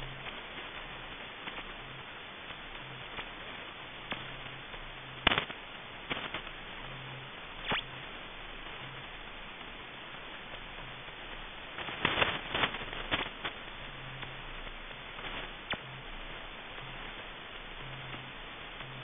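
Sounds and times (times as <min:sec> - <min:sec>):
shortwave receiver hiss: 0:00.0 - 0:19.0.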